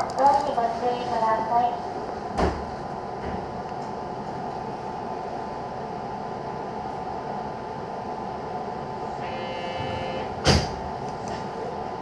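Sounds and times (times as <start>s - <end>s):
train electrical hum: 0.0s - 12.0s.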